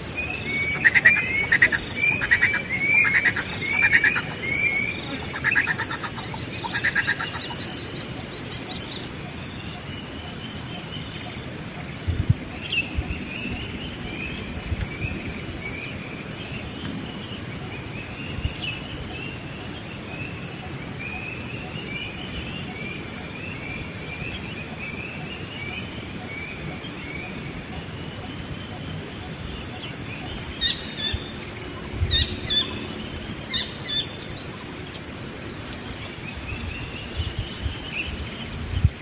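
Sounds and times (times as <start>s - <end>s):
high-pitched insect drone: 0.0s - 38.4s
birds chirping: 0.0s - 39.0s.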